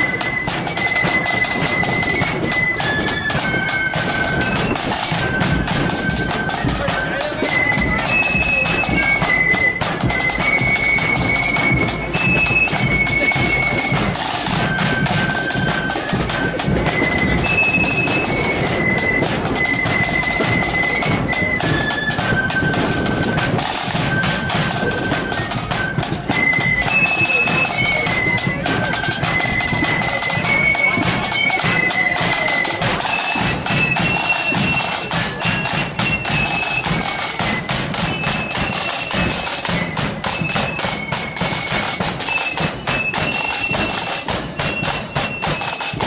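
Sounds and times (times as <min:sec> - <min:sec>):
bass drum beats: 0:00.0 - 0:38.5
shrill flutes playing melody: 0:00.0 - 0:46.0
snare drums rattling: 0:00.0 - 0:46.0.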